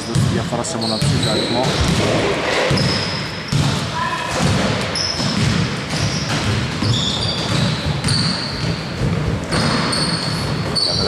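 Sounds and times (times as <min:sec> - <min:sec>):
sneakers squeaking on floor: 0:00.0 - 0:11.0
basketball thudding: 0:01.0 - 0:10.8.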